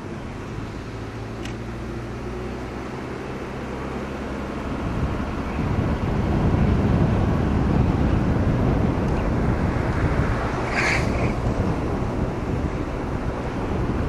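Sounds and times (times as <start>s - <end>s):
car engine hum: 0.0s - 14.0s
road noise: 0.0s - 14.0s.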